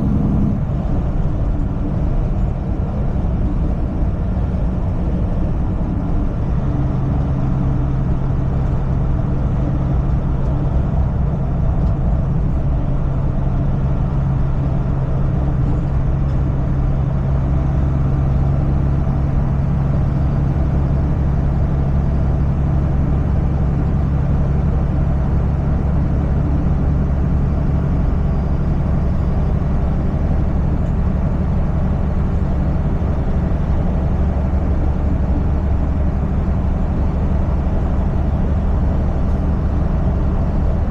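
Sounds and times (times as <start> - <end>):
road noise: 0.0 - 40.9
truck engine droning: 0.0 - 40.9.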